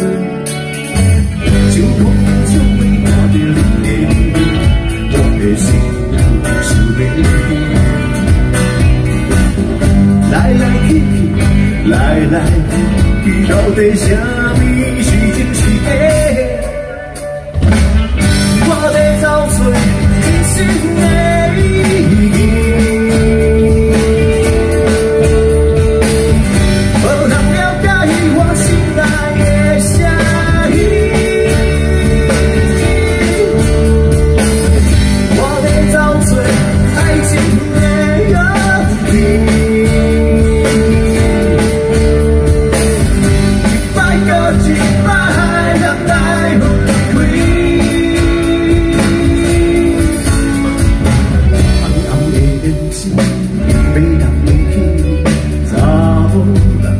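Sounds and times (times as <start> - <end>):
rock band playing: 0.0 - 56.9.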